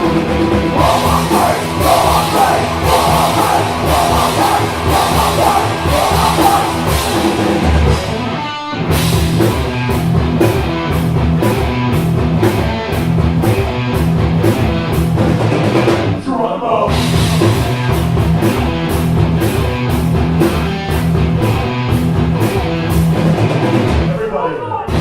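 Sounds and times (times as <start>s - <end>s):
drum-kit beat: 0.0s - 16.2s, 16.9s - 24.3s
rock band playing live: 0.0s - 16.3s, 16.9s - 25.0s.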